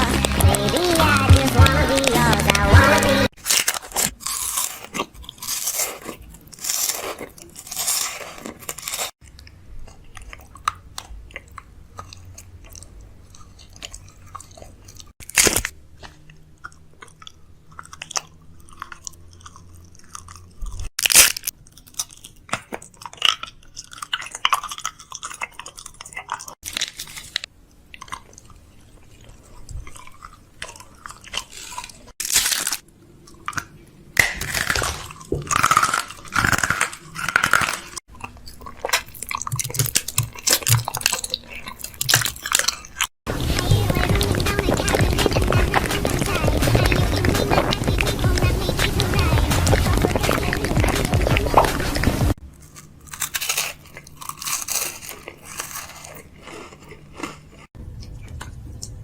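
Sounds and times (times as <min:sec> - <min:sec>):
crunchy chewing and biting: 0:00.0 - 0:59.0.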